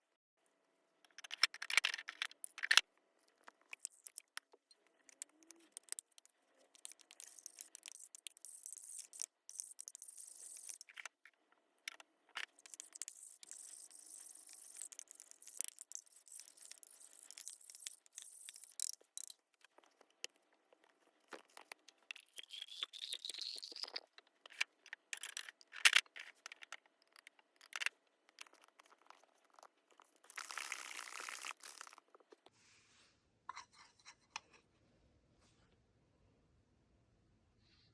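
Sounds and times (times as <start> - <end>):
small objects clicking and tapping: 1.0 - 32.5.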